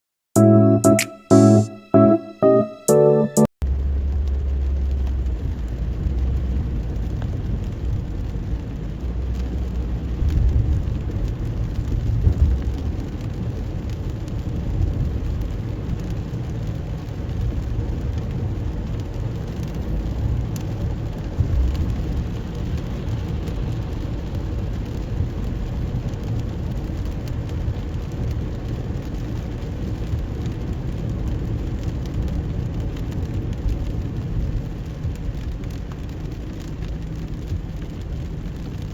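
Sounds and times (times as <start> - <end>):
rain hissing: 3.7 - 38.9.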